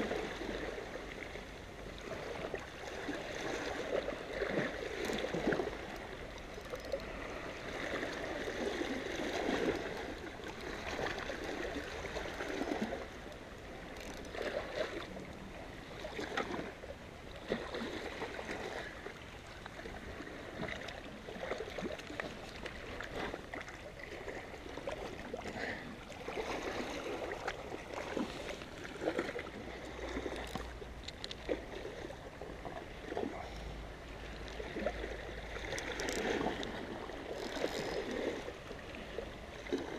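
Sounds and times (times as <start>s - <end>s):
sea waves lapping against rocks: 0.0s - 39.9s
water splashes and gurgles: 0.0s - 39.9s.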